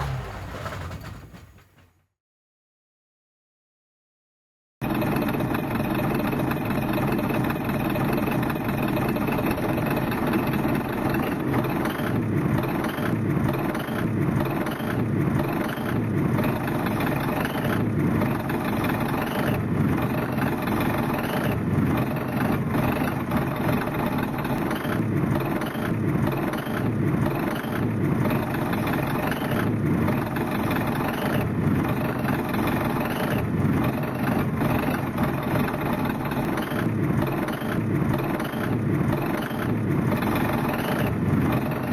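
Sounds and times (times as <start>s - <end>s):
tractor engine idling: 0.0s - 1.8s, 4.8s - 41.9s.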